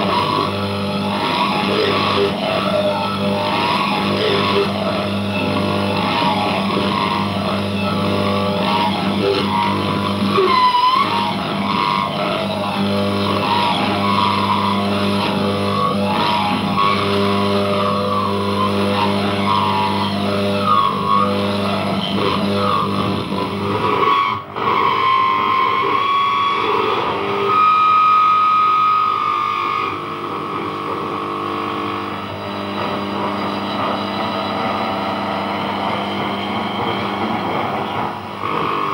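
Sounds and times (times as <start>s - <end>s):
distorted buzzing hum: 0.0s - 38.9s.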